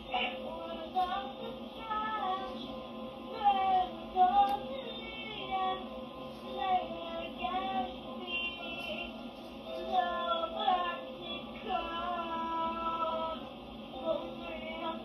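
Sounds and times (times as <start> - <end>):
girl singing through a speaker: 0.0 - 15.0.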